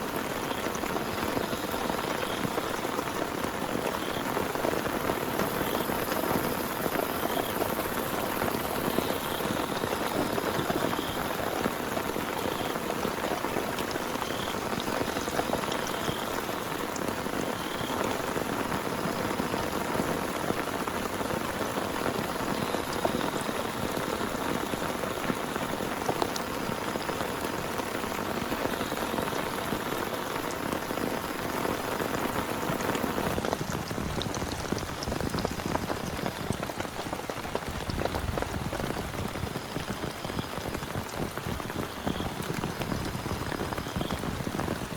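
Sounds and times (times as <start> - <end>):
heavy rain pattering: 0.0 - 44.9.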